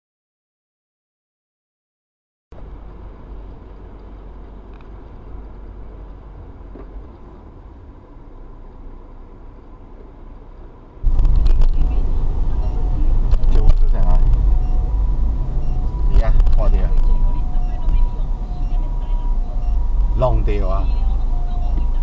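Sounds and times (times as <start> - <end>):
moving car rumble: 2.5 - 22.0
rough vehicle rumble with knocks: 2.6 - 8.4, 9.4 - 22.0.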